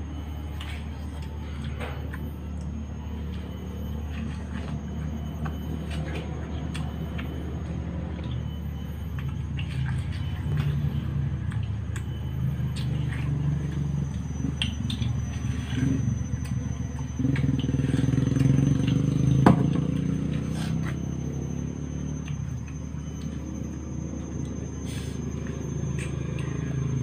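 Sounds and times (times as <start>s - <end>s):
chewing watermelon: 0.0s - 27.0s
motor engine droning: 0.0s - 27.0s.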